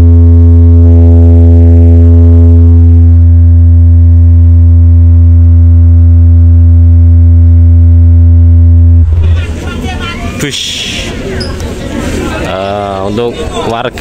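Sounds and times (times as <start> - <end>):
loud low bass tone: 0.0 - 11.3.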